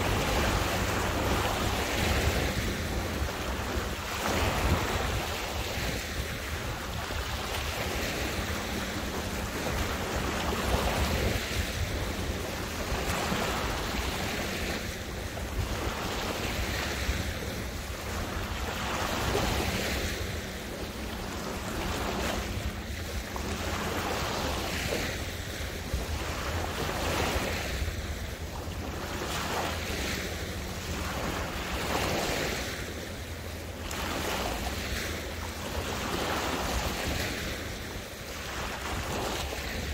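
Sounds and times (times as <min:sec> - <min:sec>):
small waves lapping: 0:00.0 - 0:39.9
wind rumble on microphone: 0:00.0 - 0:39.9.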